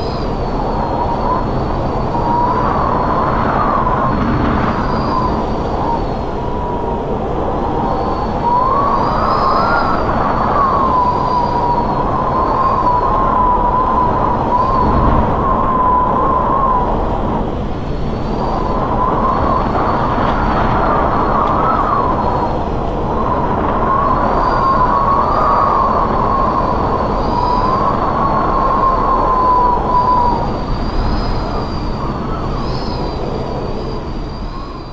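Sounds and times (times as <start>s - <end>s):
strong wind howling: 0.0s - 34.9s
wavering wind whistle: 0.0s - 34.9s.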